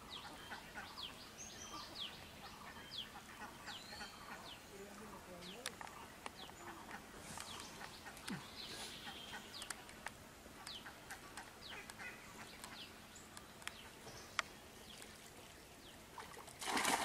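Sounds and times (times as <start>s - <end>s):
birds chirping: 0.0s - 16.4s.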